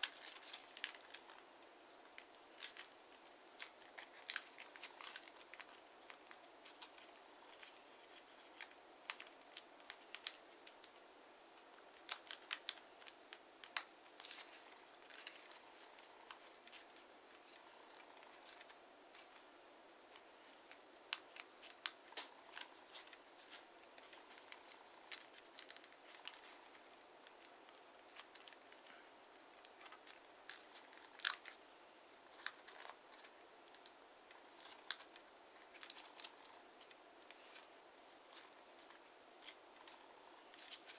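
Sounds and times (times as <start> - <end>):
paper crinkling as it is folded: 0.0 - 19.5, 20.1 - 40.9.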